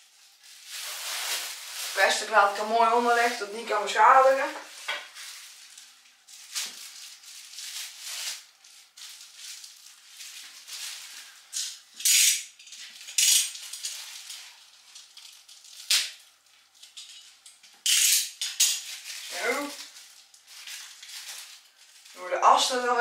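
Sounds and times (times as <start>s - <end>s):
plastic wrapping crinkling: 0.0s - 23.0s.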